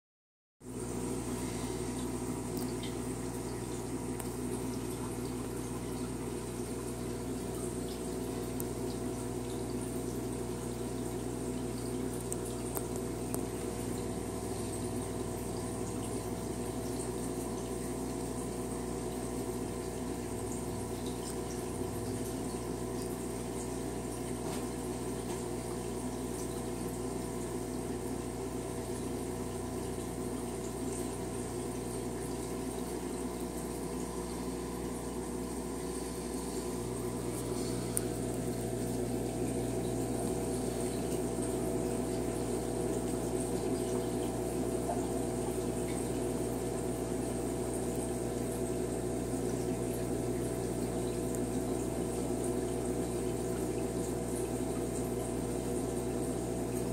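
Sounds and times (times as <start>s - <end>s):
aquarium filters bubbling: 0.6s - 56.9s
electric hum: 0.6s - 56.9s.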